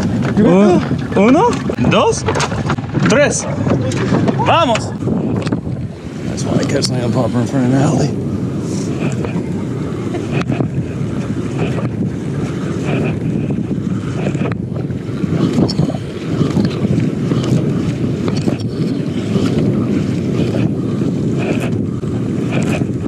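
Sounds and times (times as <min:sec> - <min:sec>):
water washing against boat hull: 0:00.0 - 0:23.0
wind buffeting the microphone: 0:00.0 - 0:23.0.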